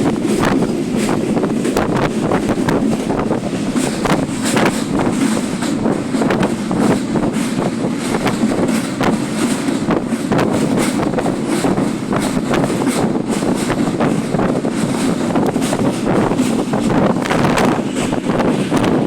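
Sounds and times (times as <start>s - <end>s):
passenger train roaring: 0.0s - 19.0s
train knocks and rattles: 0.0s - 19.0s
wind buffeting microphone: 0.0s - 19.0s.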